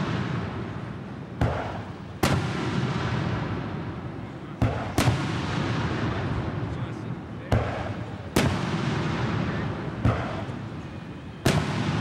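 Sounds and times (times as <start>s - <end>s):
firework shells booming: 0.0s - 6.9s, 7.5s - 12.0s.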